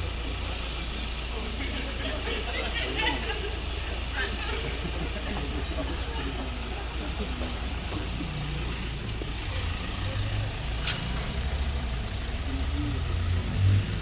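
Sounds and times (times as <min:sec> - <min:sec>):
faint voices: 0:00.0 - 0:14.0
idling cars and passing traffic: 0:00.0 - 0:14.0.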